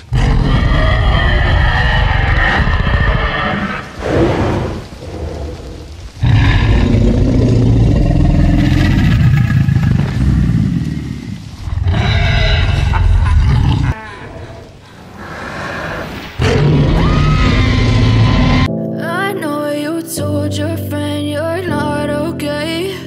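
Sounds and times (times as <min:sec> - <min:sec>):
dinosaur roaring and growling: 0:00.0 - 0:18.7.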